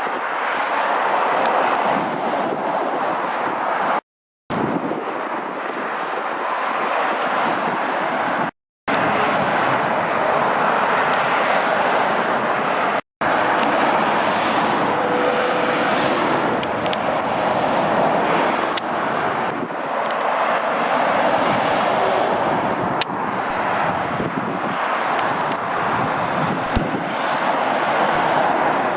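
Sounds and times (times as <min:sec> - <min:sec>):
road traffic rushing past: 0:00.0 - 0:04.0, 0:04.6 - 0:28.9.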